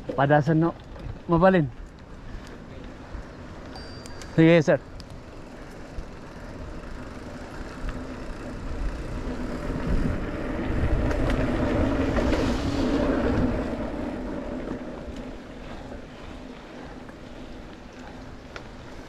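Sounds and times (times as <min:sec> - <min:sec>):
vehicle rumble and road noise: 0:00.0 - 0:19.0.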